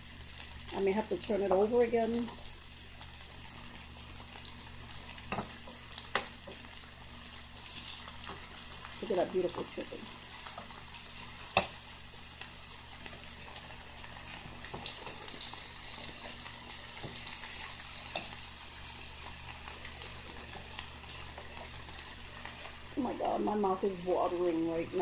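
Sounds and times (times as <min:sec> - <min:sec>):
chicken sizzling in skillet: 0:00.0 - 0:25.0.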